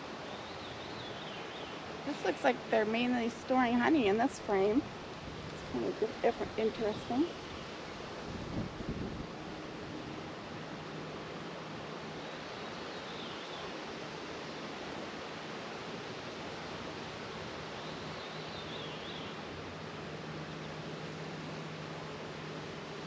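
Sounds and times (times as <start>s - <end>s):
outdoor hiss: 0.0s - 23.0s.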